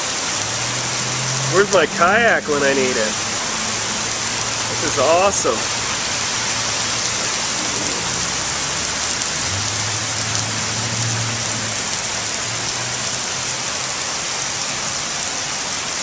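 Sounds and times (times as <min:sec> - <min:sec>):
floodwater rushing: 0:00.0 - 0:16.0
heavy rain pouring: 0:00.0 - 0:16.0.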